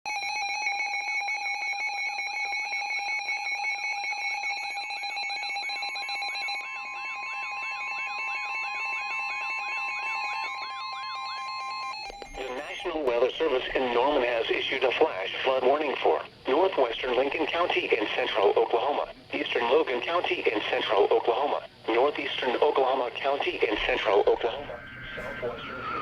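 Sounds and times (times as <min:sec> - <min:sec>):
warbling alarm tone: 0:00.1 - 0:21.6, 0:22.4 - 0:26.0
steady alarm tone: 0:00.1 - 0:26.0
steady beeping tones: 0:04.0 - 0:26.0.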